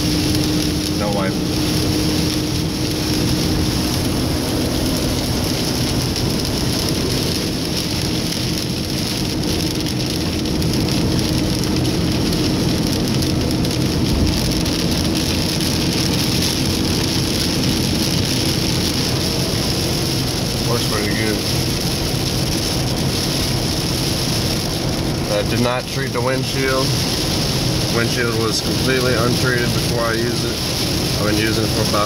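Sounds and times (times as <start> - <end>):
car driving on wet road: 0.0 - 32.0
rain hitting car windshield and roof: 0.0 - 32.0.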